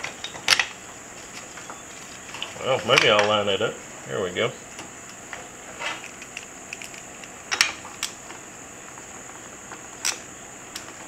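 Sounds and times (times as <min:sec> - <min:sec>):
faint steady high hiss: 0:00.0 - 0:11.0.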